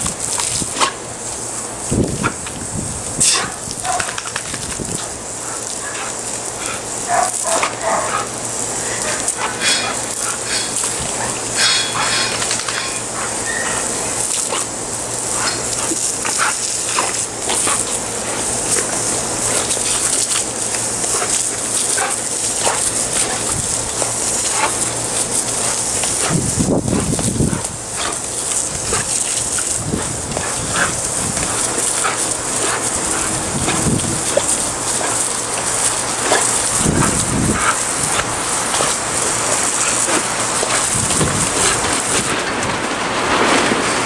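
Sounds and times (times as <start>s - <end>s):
hose spraying water on concrete: 0.0s - 44.0s.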